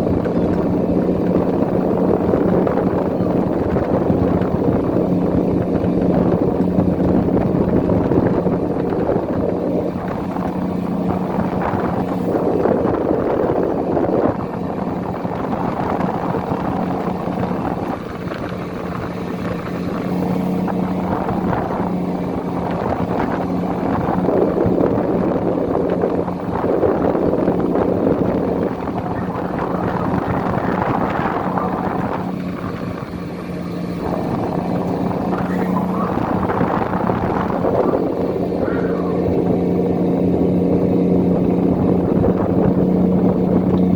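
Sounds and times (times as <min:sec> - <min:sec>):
boat engine running: 0:00.0 - 0:43.9
rushing water: 0:00.0 - 0:43.9
wind noise: 0:00.0 - 0:43.9.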